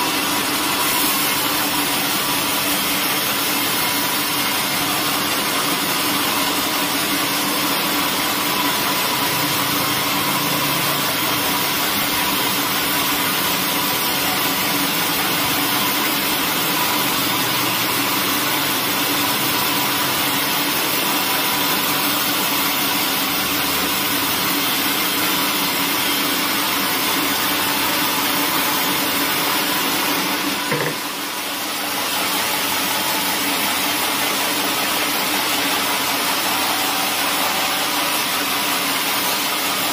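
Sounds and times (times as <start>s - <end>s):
band saw cutting wood: 0.0s - 39.8s.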